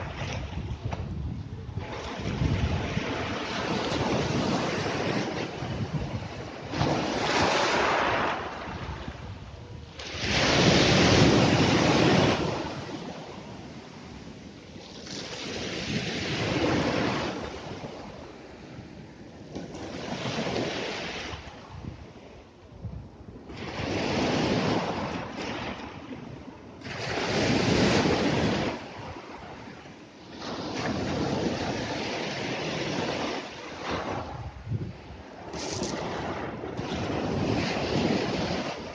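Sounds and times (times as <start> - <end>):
sea waves breaking on shore: 0.0 - 22.5, 23.4 - 38.9.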